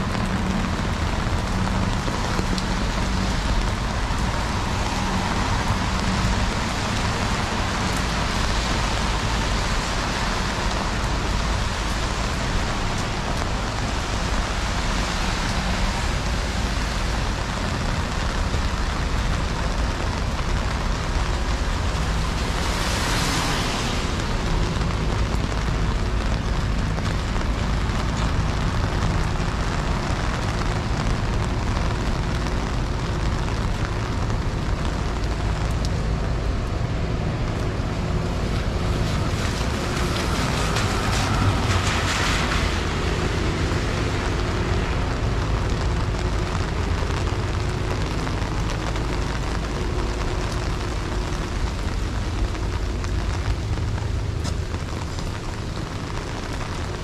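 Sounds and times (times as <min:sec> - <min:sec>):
rain falling on street: 0:00.0 - 0:57.0.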